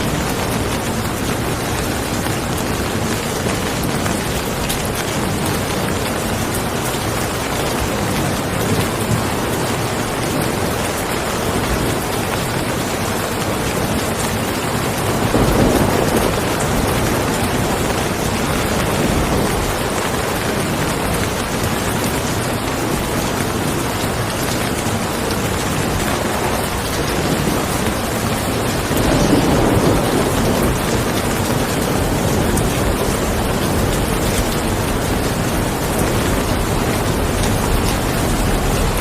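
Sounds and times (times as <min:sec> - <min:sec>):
dense rain: 0:00.0 - 0:39.0.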